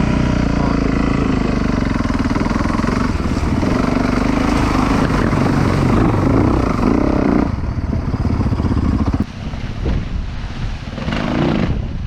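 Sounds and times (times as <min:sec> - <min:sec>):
dirt bike engine revving: 0:00.0 - 0:09.2, 0:11.0 - 0:11.9.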